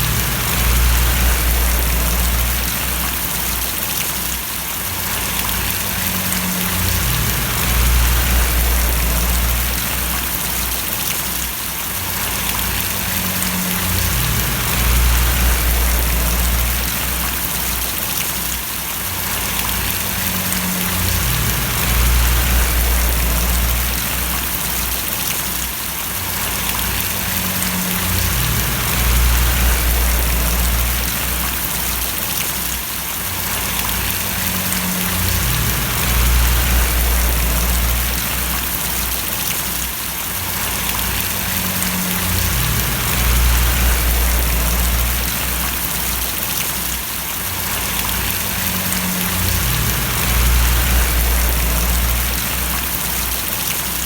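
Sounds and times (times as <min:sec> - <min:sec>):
low rumble: 0:00.0 - 0:03.6, 0:05.2 - 0:11.0, 0:12.2 - 0:17.8, 0:19.4 - 0:25.2, 0:26.4 - 0:32.2, 0:33.6 - 0:39.4, 0:40.6 - 0:46.4, 0:47.7 - 0:53.7
rain splashing: 0:00.0 - 0:54.0.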